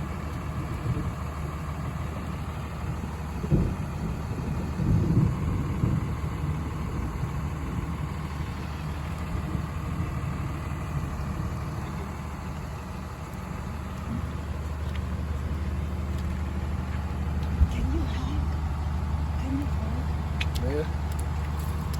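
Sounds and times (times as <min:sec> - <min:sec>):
truck engine idling: 0:00.0 - 0:21.9.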